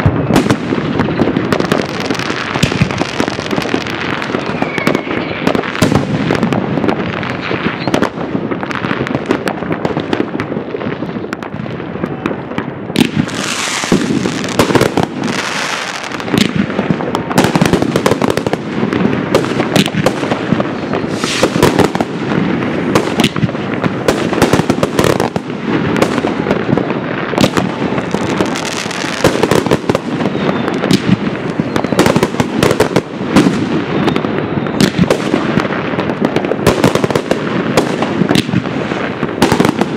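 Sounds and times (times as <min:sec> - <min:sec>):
fireworks hissing rushes: 0:00.0 - 0:09.4, 0:13.0 - 0:39.9
fireworks bangs and crackling: 0:00.0 - 0:39.9.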